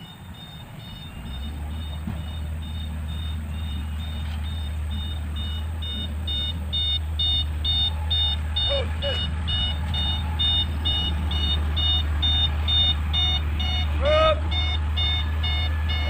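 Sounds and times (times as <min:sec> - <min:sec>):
truck back-up alarm beeping: 0:00.0 - 0:16.0
truck engine drone: 0:00.0 - 0:16.0.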